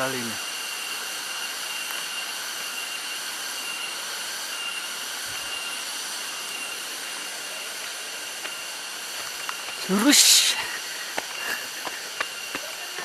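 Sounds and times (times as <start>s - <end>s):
thin high-pitched whine: 0.0s - 13.0s.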